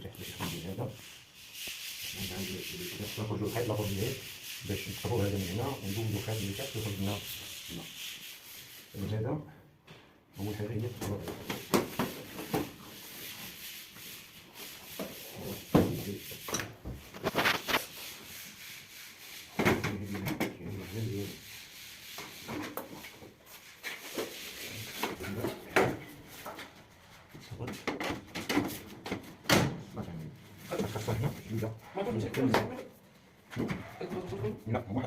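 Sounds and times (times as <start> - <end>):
rubbing and scraping: 0.0 - 9.2, 10.4 - 29.4, 30.0 - 35.0.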